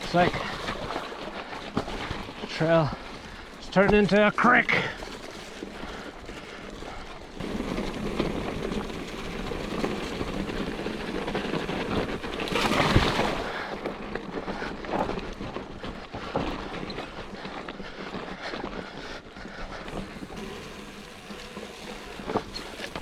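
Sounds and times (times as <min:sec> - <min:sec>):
bike tyres through water and rocks: 0:00.0 - 0:23.0.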